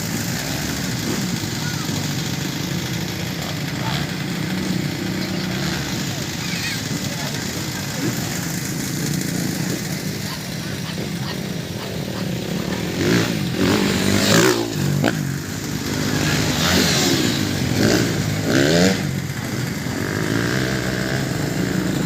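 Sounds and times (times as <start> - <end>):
motocross motorcycle engines revving: 0.0 - 22.0
steady engine drone: 0.0 - 22.0.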